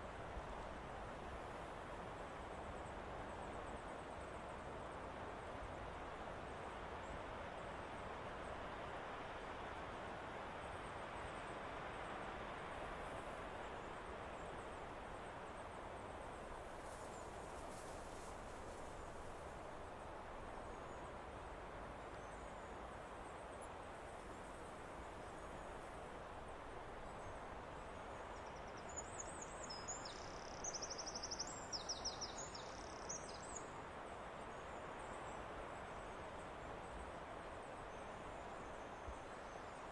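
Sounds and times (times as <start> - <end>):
wind hissing in trees: 0.0 - 39.9.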